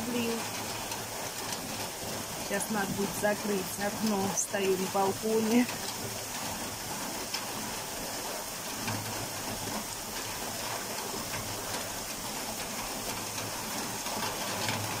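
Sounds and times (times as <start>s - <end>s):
rain falling on trees and grass: 0.0s - 15.0s.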